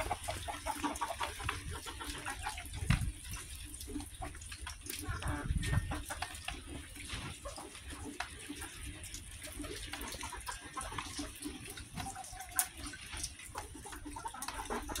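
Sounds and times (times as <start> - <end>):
chickens pecking wet food: 0.0 - 15.0.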